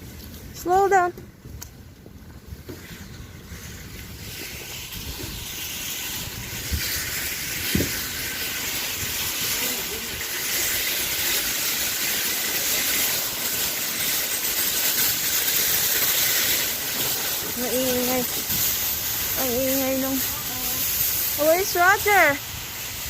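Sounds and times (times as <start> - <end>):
loud steady hissing: 0.0 - 23.0.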